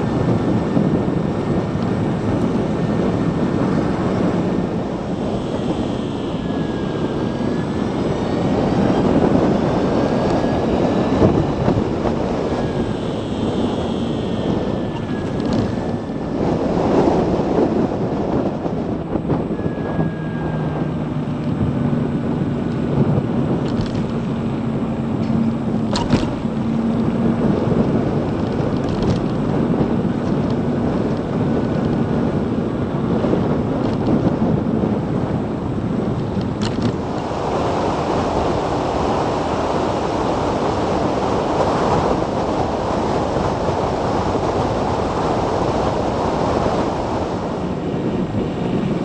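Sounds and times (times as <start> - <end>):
low steady hums: 0.0 - 49.0
road noise: 0.0 - 49.0
wind rushing over microphone: 0.0 - 49.0.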